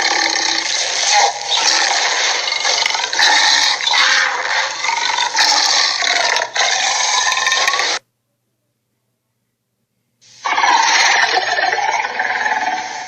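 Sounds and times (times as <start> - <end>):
cartoon dinosaur screeches: 0.0 - 8.0, 10.4 - 13.0.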